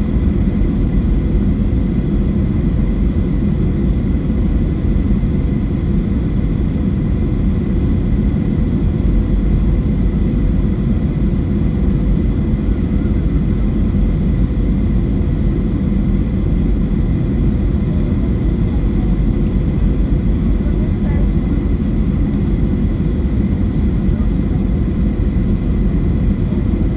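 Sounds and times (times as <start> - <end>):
jet engine cabin rumble: 0.0 - 26.9.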